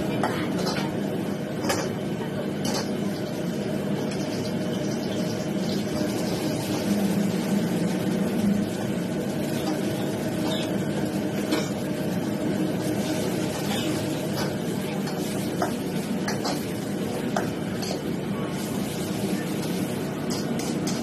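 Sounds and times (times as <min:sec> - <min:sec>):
gas burner roaring: 0:00.0 - 0:21.0.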